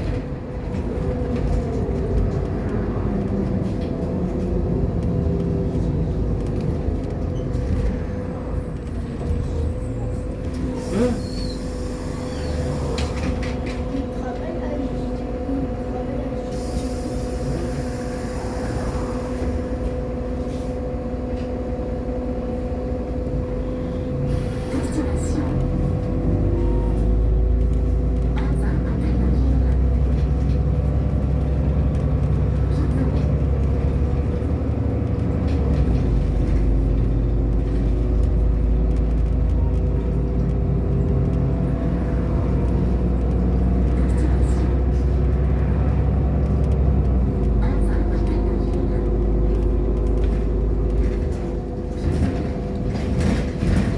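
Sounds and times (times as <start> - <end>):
bus engine droning: 0.0 - 53.9.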